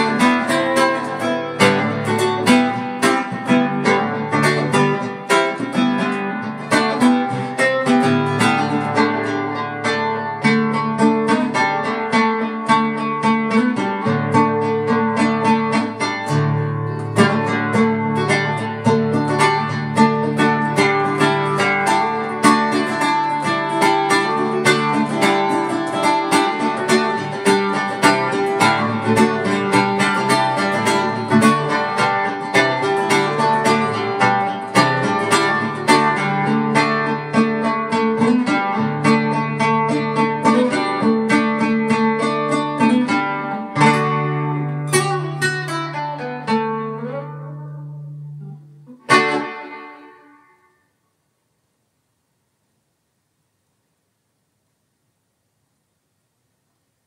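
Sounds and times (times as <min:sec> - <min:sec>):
acoustic guitar playing: 0:00.0 - 0:51.4.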